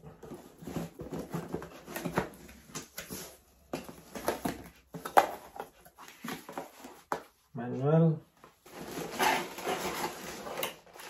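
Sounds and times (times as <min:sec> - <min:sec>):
cardboard packaging rustling: 0:00.0 - 0:07.4, 0:08.4 - 0:11.0.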